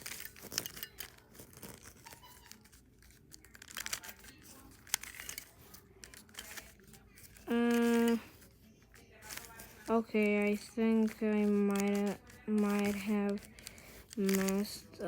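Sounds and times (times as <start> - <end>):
puzzle cube clicking: 0.0 - 8.5, 9.2 - 14.9.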